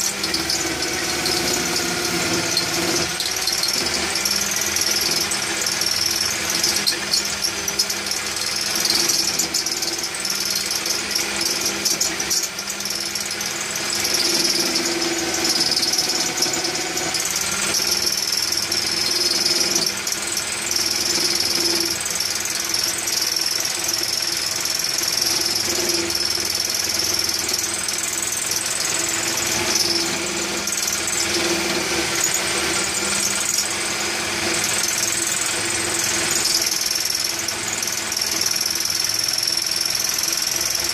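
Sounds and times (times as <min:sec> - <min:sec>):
chisel scraping spinning wood: 0:00.0 - 0:40.9
electric drill running: 0:00.0 - 0:40.9.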